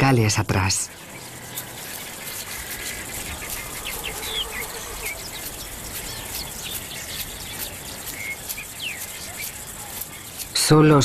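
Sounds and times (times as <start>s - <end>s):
birds chirping: 0.0s - 11.0s
low bird notes: 0.9s - 10.4s.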